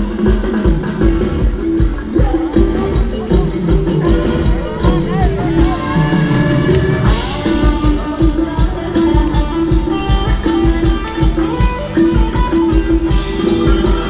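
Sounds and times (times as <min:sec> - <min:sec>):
band music over loudspeakers: 0:00.0 - 0:14.0
drum beat: 0:00.0 - 0:14.0
guitar: 0:00.0 - 0:14.0.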